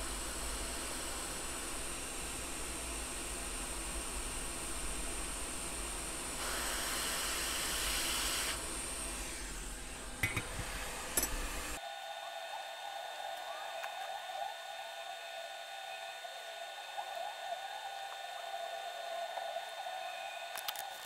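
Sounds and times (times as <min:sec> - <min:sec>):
faint steady whine: 0:00.0 - 0:21.0
hot air station hissing: 0:00.0 - 0:21.0.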